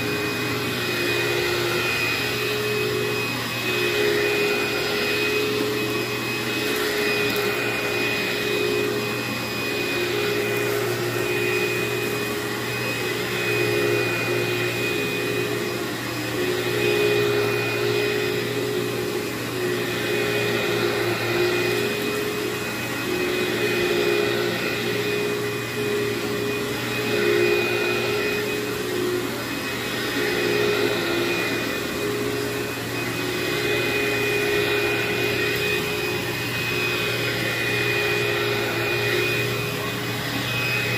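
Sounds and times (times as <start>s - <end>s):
vacuum cleaner on carpet: 0.0s - 40.9s.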